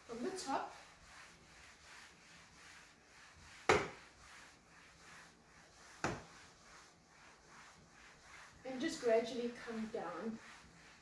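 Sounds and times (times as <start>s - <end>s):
wet mop wiping a wall: 0.0s - 11.0s.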